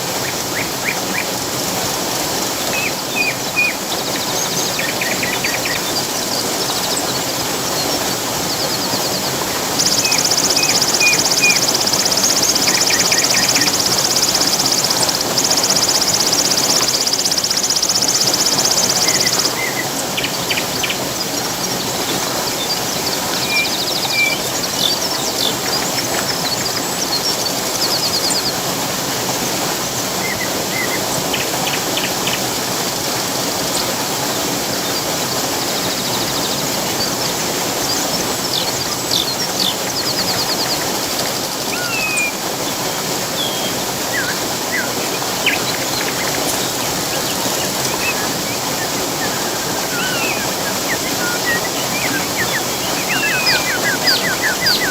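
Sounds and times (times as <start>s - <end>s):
birds calling: 0.0s - 54.9s
rushing water: 0.0s - 54.9s.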